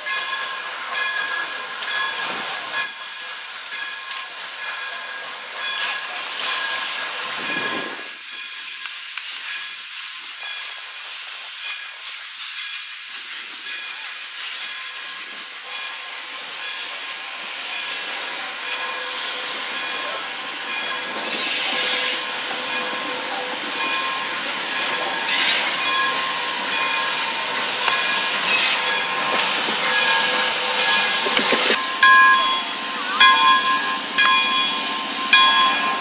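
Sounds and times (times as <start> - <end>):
steam hiss: 0.0 - 36.0
wheels squealing on rail: 0.0 - 36.0.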